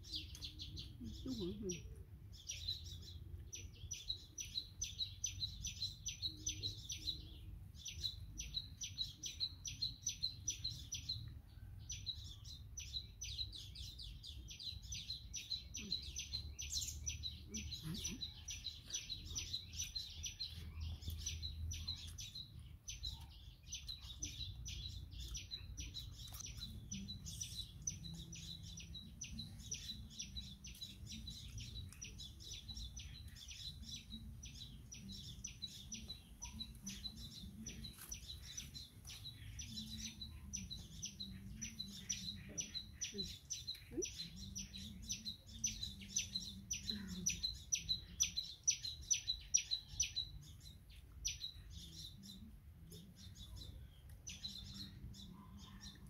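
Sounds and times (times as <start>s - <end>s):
birds chirping rapidly: 0.0s - 56.0s.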